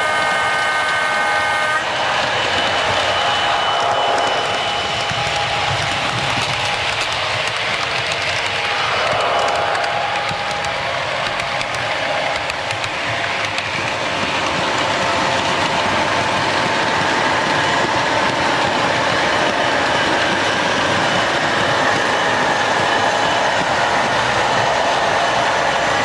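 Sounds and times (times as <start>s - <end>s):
model train wheels clattering: 1.8s - 26.0s.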